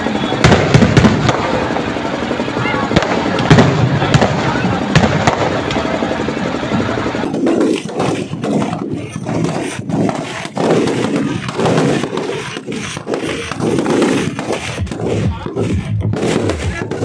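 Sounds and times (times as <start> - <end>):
fireworks burning rushing noise: 0.0 - 17.0.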